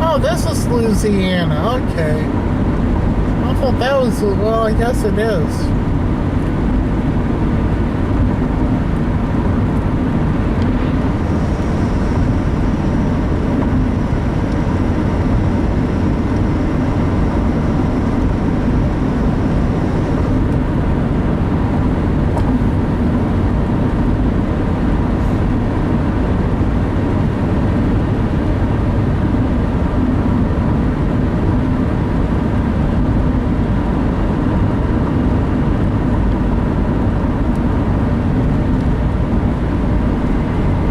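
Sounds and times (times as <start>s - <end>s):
car road and engine noise: 0.0s - 40.9s.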